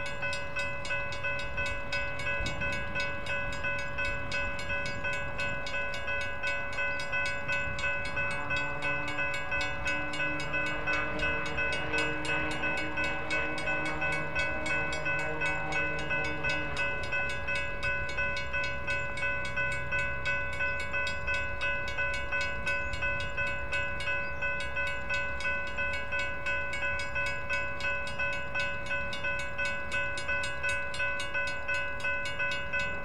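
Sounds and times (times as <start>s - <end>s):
crossing signal bells ringing: 0.0s - 33.0s.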